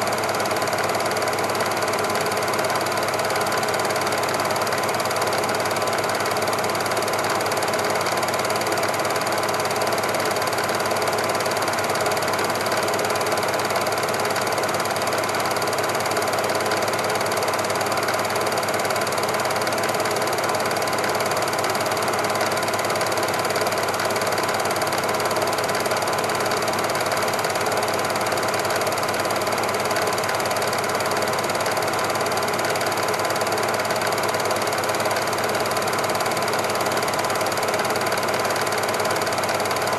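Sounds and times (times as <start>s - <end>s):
film projector whirring and rattling: 0.0s - 39.9s.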